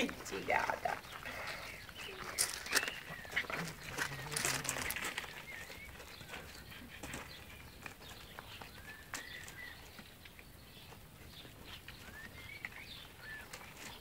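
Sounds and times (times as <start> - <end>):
paws crunching on gravel: 0.0 - 14.0.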